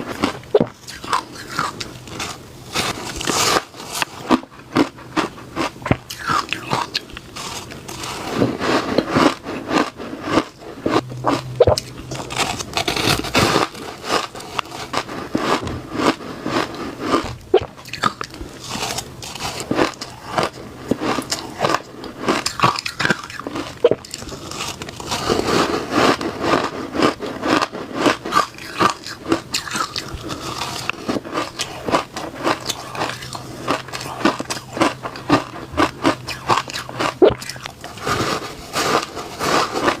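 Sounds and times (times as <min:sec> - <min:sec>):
ice being chewed: 0:00.0 - 0:40.0.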